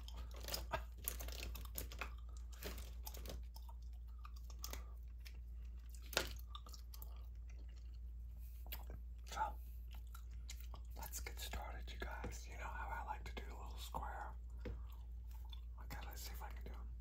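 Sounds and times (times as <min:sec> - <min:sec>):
gum chewing smacks and clicks: 0:00.0 - 0:17.0.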